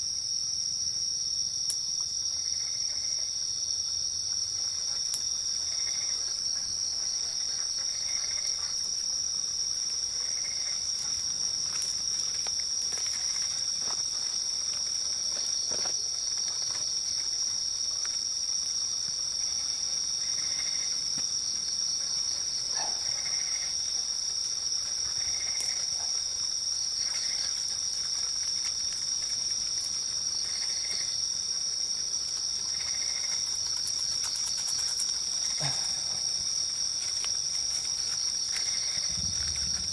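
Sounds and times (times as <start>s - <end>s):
insects trilling high-pitched: 0.0s - 39.9s
low insect chirp: 0.0s - 39.9s.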